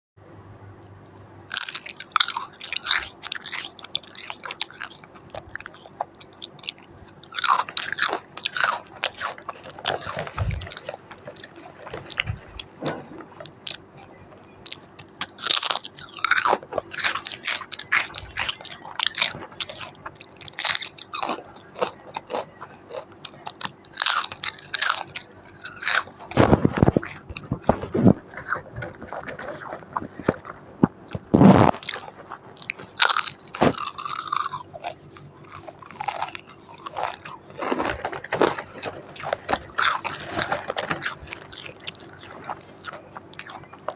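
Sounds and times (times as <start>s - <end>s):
person chewing crisp potato chips: 1.5s - 43.9s.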